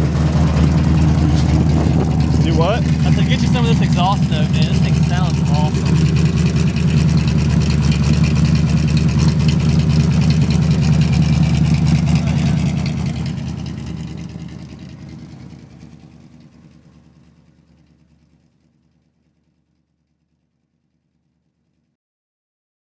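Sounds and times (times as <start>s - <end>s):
car engine idling: 0.0s - 21.8s.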